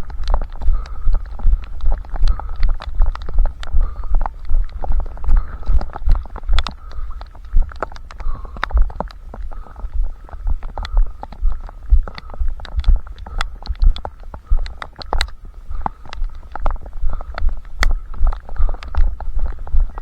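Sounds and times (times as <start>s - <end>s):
gear clicks and rustle: 0.0s - 20.0s.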